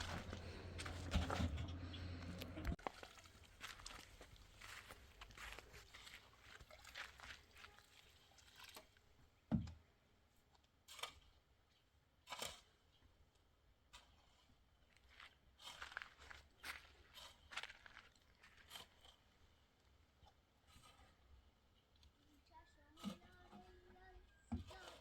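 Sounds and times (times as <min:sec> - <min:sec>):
faint crunching and scraping: 0:00.0 - 0:09.4, 0:10.3 - 0:25.0.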